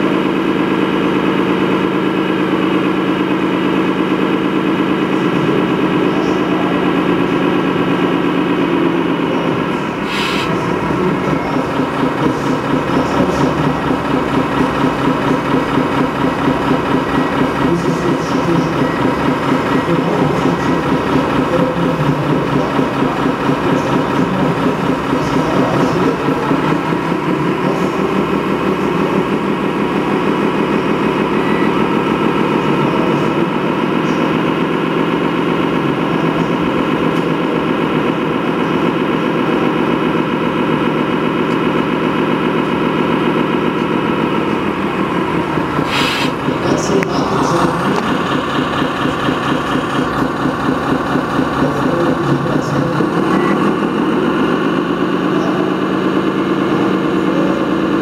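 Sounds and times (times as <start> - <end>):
model truck diesel engine idling: 0.0 - 58.0.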